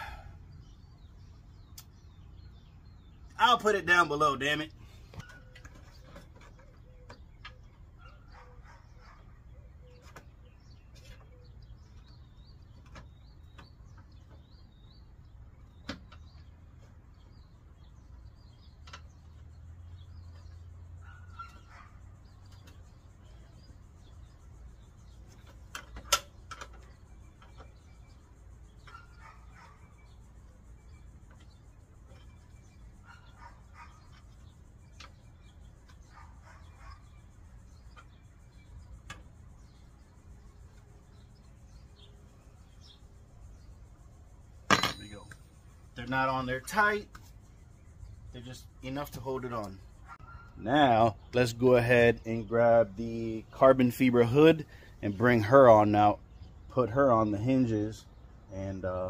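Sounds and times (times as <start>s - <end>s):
faint bird chirps: 0.0s - 59.0s.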